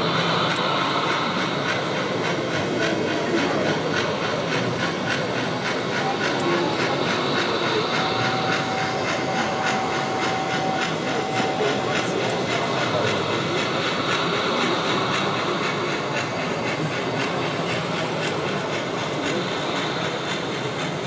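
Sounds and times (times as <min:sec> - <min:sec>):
model steam locomotive chuffing: 0:00.0 - 0:21.0
steam hiss: 0:00.0 - 0:21.0.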